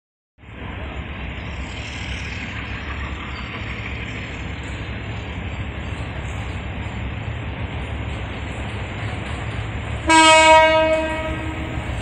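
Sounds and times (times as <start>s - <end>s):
diesel locomotive rumbling: 0.4s - 12.0s.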